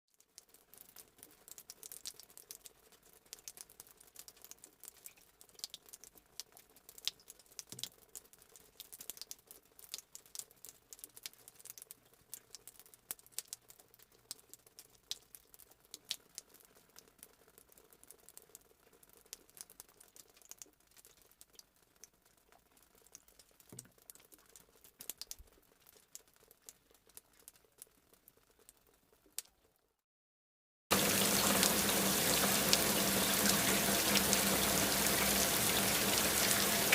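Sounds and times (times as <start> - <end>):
raindrops pattering: 0.1 - 29.8, 30.9 - 36.9.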